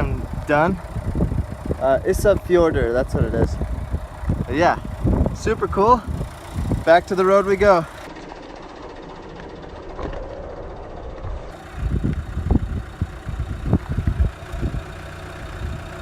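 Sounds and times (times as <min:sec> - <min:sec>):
car driving hum: 0:00.0 - 0:16.0
low thumps and rumbles: 0:00.0 - 0:16.0.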